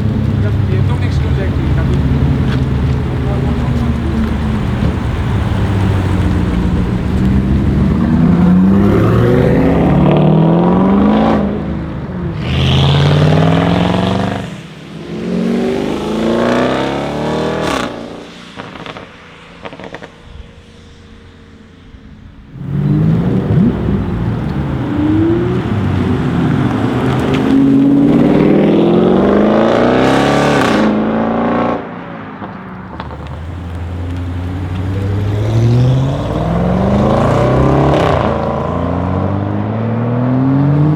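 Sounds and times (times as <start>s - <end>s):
exhaust crack: 0.0s - 40.3s
car engine accelerating hard: 0.0s - 40.9s.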